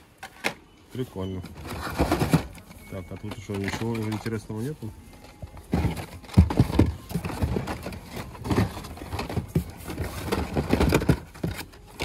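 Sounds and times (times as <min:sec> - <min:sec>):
toy cars clattering in packaging: 0:00.1 - 0:12.0.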